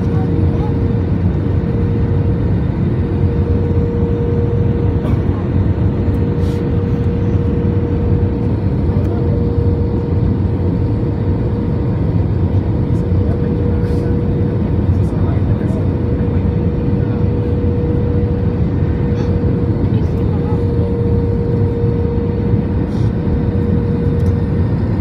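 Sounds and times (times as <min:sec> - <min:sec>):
aircraft cabin engine rumble: 0:00.0 - 0:25.0
steady hum: 0:00.0 - 0:25.0.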